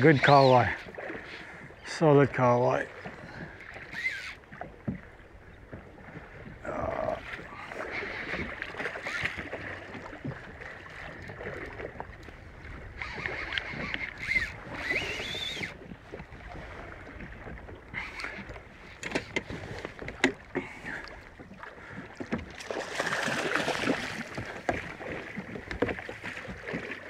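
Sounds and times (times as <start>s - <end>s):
water slapping boat hull: 0.0s - 27.0s.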